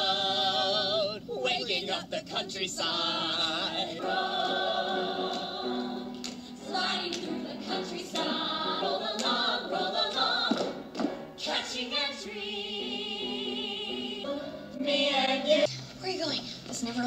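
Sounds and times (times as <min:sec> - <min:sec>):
chorus of young voices singing: 0:00.0 - 0:01.2, 0:02.3 - 0:15.7.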